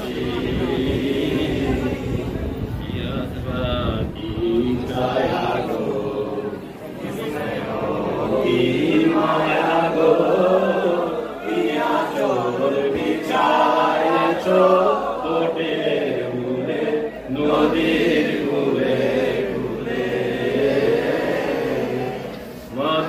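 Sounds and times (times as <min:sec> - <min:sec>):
men chanting devotional song: 0:00.0 - 0:23.0.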